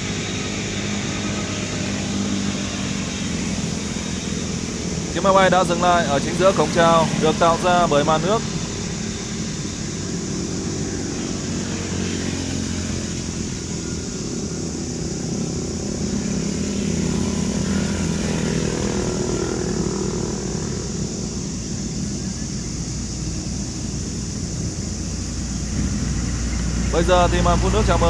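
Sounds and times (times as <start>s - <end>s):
distant engines humming: 0.0s - 28.0s.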